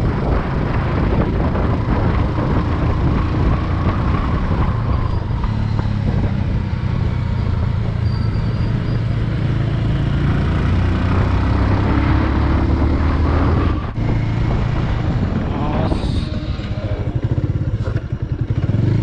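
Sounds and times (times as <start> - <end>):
motorcycle engine running: 0.0 - 19.0
road noise rushing: 0.0 - 19.0.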